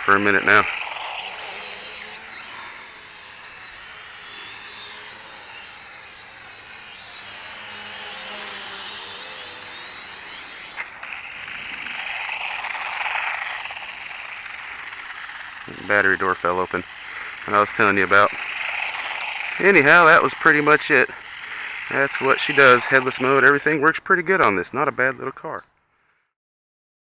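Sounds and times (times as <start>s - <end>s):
electric motors whining: 0.0s - 23.6s.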